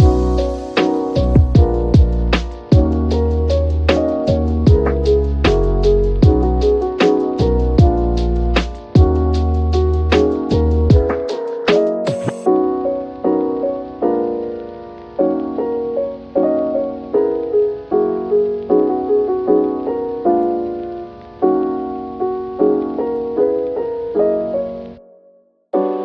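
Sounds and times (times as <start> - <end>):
gentle piano piece: 0.0 - 26.0.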